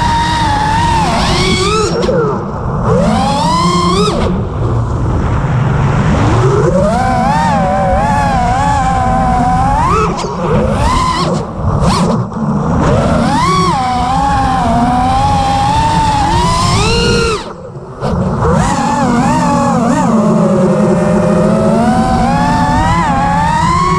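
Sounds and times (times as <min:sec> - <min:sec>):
drone motors whining: 0:00.0 - 0:23.9
rush of wind: 0:00.0 - 0:23.9.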